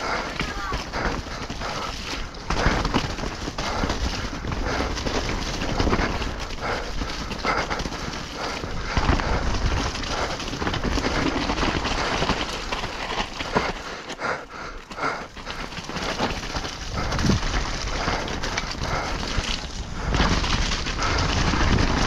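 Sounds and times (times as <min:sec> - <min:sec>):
bike rattling and knocking: 0:00.0 - 0:22.0
tyres churning through mud: 0:00.0 - 0:22.0.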